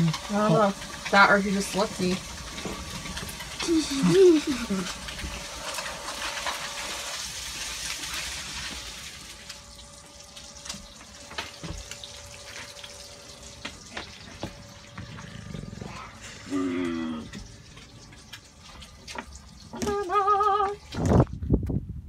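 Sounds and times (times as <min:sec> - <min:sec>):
steady hiss of running water: 0:00.0 - 0:21.2.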